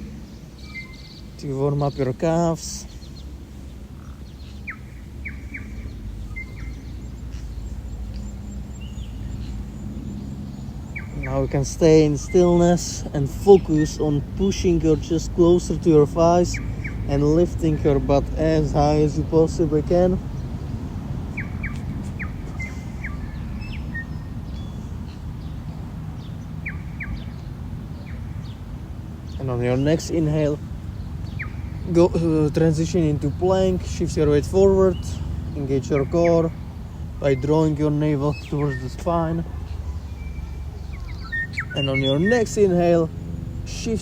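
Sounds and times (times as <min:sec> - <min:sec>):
birds chirping: 0:00.0 - 0:44.0
steady low rumble: 0:00.0 - 0:44.0.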